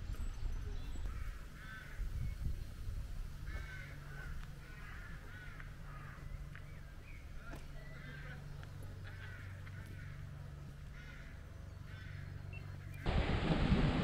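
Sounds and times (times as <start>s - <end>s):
birds harsh calls: 0.6s - 2.5s, 3.4s - 13.1s.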